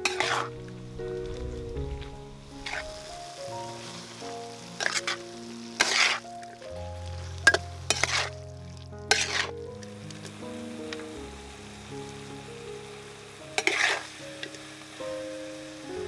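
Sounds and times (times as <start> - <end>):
food sizzling in a pan: 0.0 - 16.0
instrumental background music: 0.0 - 16.0.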